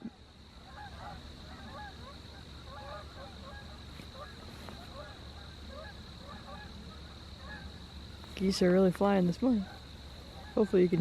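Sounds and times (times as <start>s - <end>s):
geese honking in flight: 0.6s - 11.0s.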